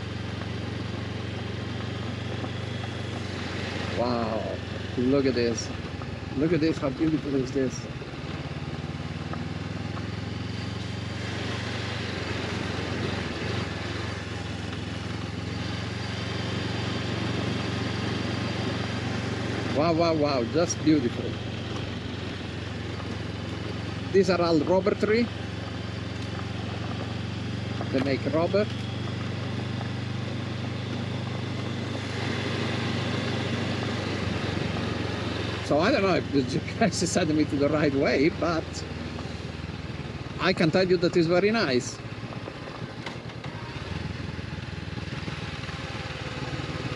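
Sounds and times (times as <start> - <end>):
motorcycle engine running steadily: 0.0 - 46.9
road noise: 0.0 - 46.9.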